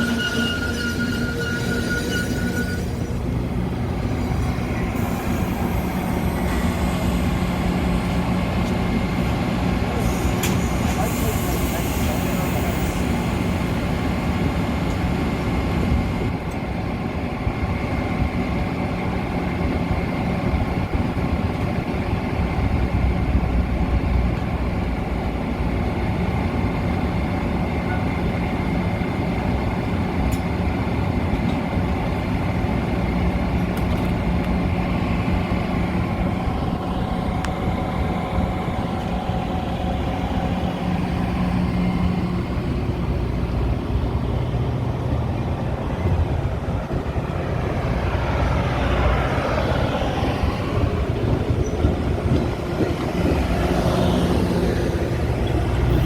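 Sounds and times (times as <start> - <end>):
commuter train rumble: 0.0 - 56.0.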